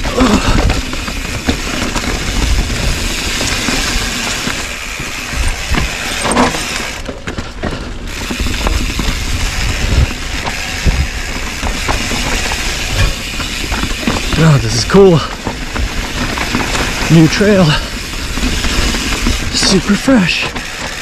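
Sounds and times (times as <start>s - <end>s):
bike rattling over bumps: 0.0s - 21.0s
bike tyres rolling over dirt: 0.0s - 21.0s.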